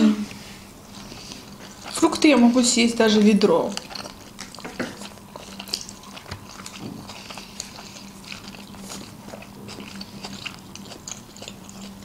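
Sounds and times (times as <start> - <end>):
faint steady hum: 0.0 - 12.0
people chewing: 0.0 - 12.0.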